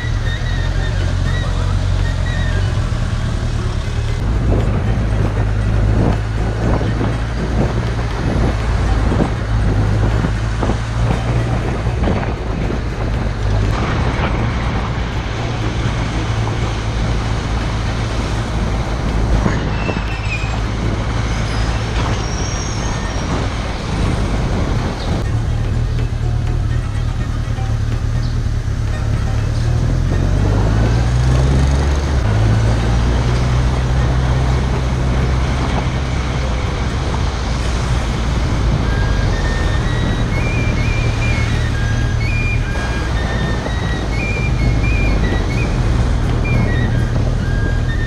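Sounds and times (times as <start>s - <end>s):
motorcycle engine drone: 0.0s - 48.0s
road noise: 0.0s - 48.0s.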